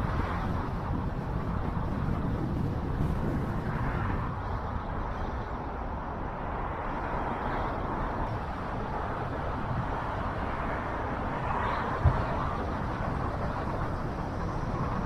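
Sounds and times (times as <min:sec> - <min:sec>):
car tyres and engine rumble: 0:00.0 - 0:15.0
surrounding traffic: 0:00.0 - 0:15.0.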